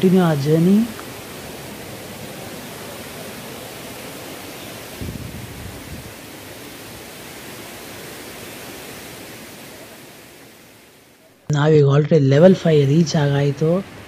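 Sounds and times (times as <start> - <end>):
waterfall rushing hiss: 0.0 - 11.3.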